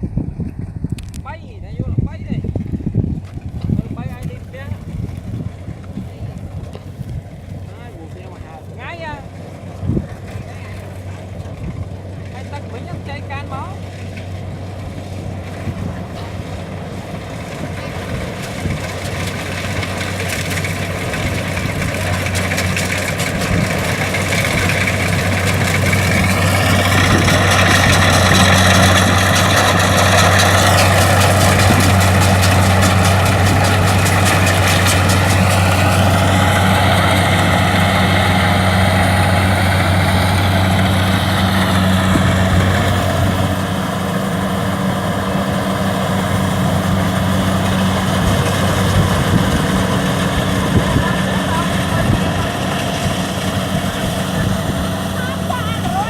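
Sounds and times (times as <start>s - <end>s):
combine harvester diesel drone: 3.4s - 56.0s.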